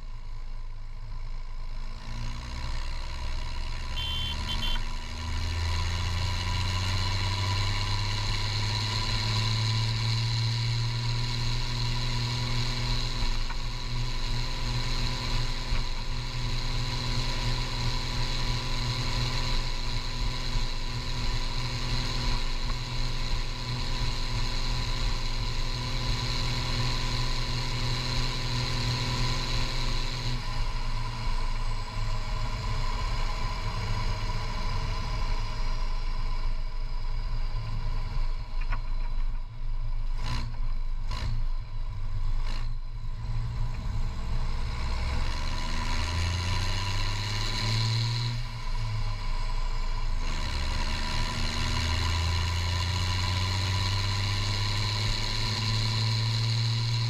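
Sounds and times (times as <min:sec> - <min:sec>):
tractor diesel engine: 0:00.0 - 0:57.0.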